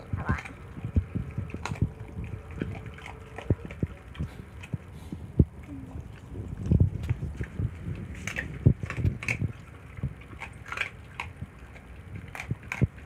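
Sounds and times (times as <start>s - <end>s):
dog chewing and gulping: 0.0s - 13.0s.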